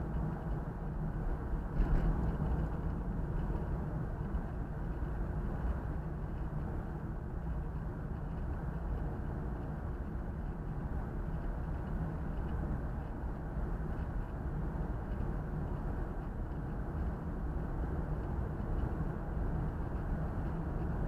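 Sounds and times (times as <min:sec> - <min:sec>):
car tyre and engine rumble: 0:00.0 - 0:21.0.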